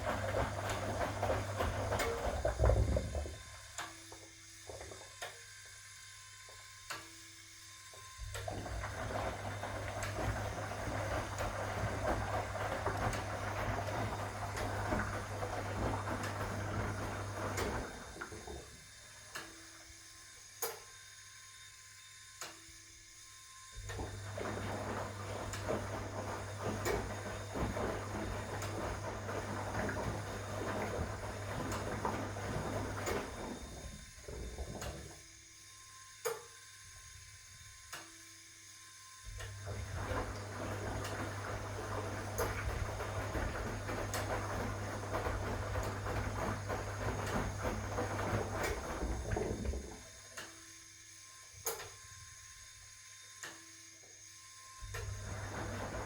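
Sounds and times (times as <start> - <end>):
drum churning wet laundry: 0.0 - 21.0, 23.7 - 35.5, 39.2 - 56.0
washing machine motor humming: 0.0 - 21.0, 23.2 - 35.5, 39.3 - 56.0.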